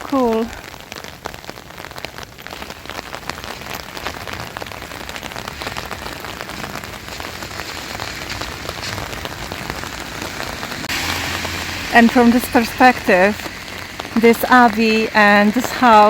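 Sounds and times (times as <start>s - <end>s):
rain falling: 0.0s - 16.0s
raindrops pattering close by: 0.0s - 16.0s.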